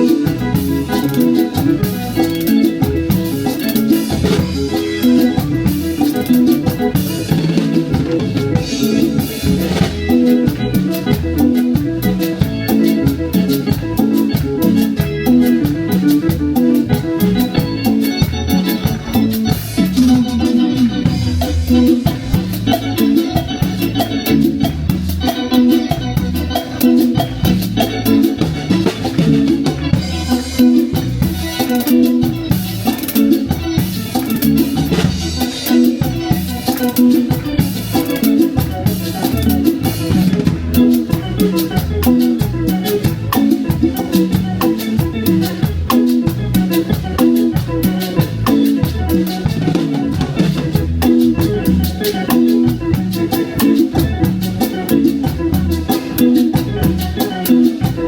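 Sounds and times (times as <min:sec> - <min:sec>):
bass line: 0:00.0 - 0:58.0
drum kit: 0:00.0 - 0:58.0.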